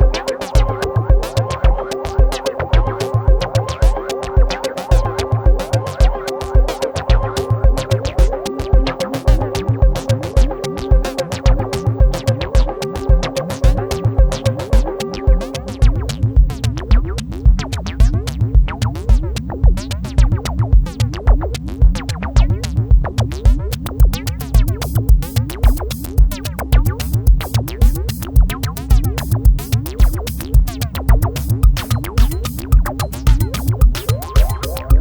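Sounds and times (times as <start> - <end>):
electronic music with drum-machine beat: 0.0 - 35.0.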